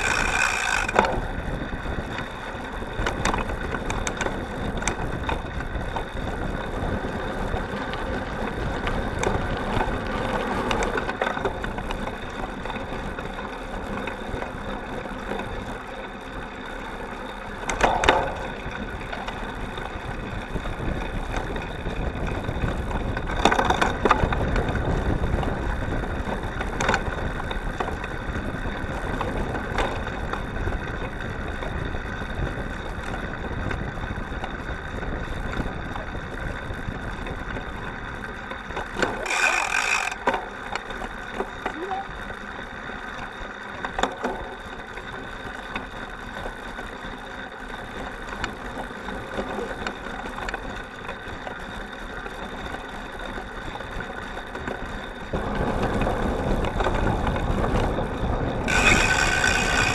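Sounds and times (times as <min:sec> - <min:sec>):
bike jolting over bumps: 0:00.0 - 0:59.9
bike tyres crunching and rattling: 0:00.0 - 0:59.9.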